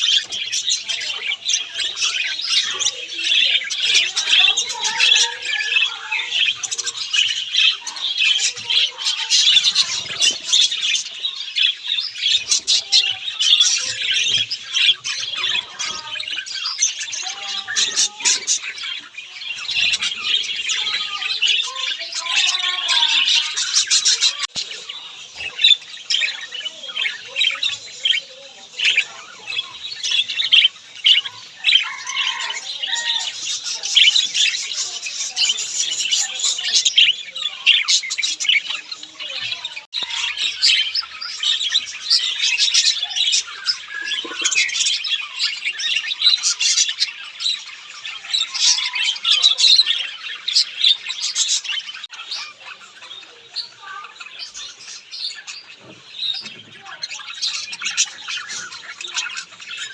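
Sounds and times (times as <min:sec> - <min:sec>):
pet birds chirping and squawking: 0:00.0 - 0:59.9.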